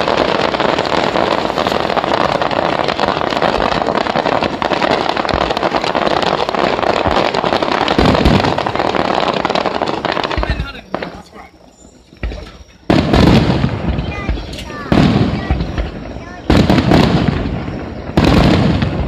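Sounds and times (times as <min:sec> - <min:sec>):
deep fireworks booms: 0:00.0 - 0:19.0
fireworks crackling: 0:00.0 - 0:19.0.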